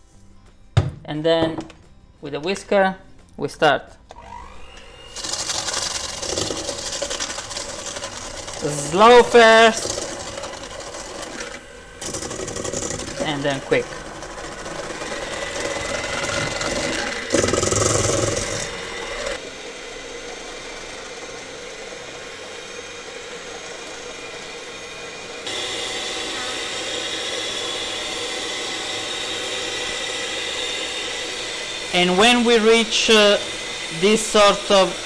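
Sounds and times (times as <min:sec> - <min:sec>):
electric hand mixer whirring: 0:04.1 - 0:35.0.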